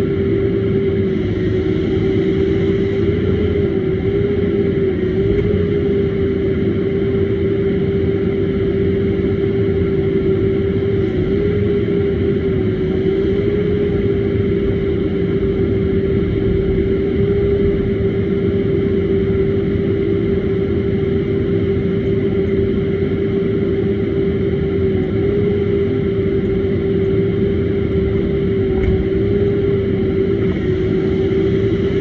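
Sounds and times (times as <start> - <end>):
hydraulic hum: 0.0 - 32.0.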